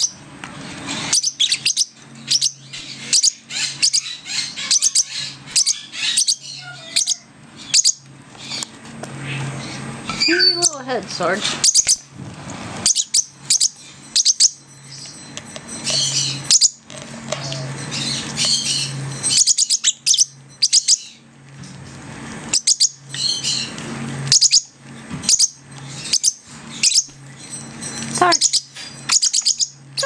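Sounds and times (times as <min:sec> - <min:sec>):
soft raspy bird chatter: 0:00.0 - 0:12.1, 0:12.8 - 0:21.3, 0:22.4 - 0:30.0
small parrots chirping: 0:00.9 - 0:10.8, 0:11.4 - 0:12.1, 0:12.8 - 0:21.2, 0:22.5 - 0:30.0.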